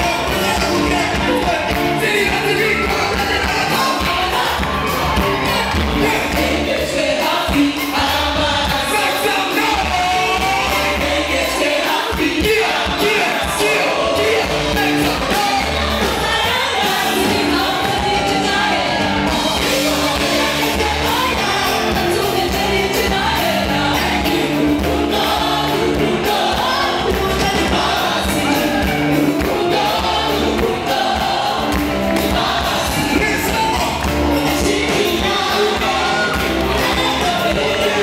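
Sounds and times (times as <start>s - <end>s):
gospel group singing: 0.0s - 38.0s
live band playing: 0.0s - 38.0s.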